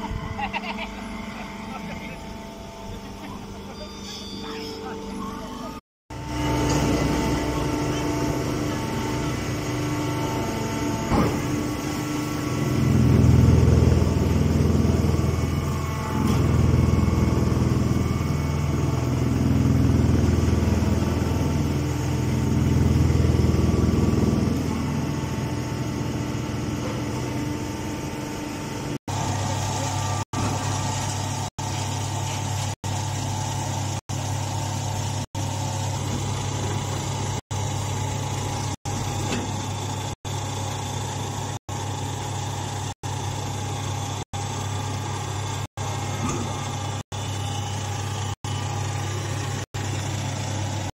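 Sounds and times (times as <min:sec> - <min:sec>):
hydraulic baler humming: 0:00.0 - 0:50.9.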